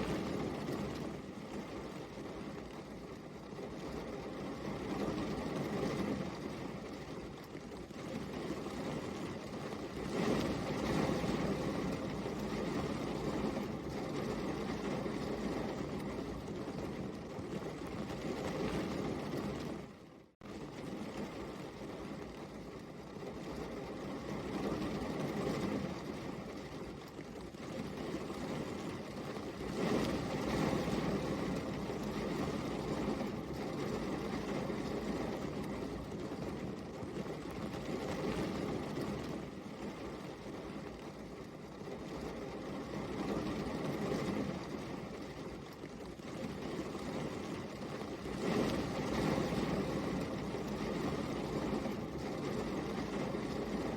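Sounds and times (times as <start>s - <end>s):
steady rainfall: 0.0s - 19.8s, 20.5s - 53.9s.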